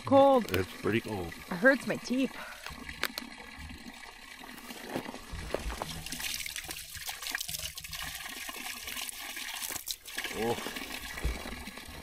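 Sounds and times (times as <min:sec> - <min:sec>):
spring water trickling: 0:00.0 - 0:12.0.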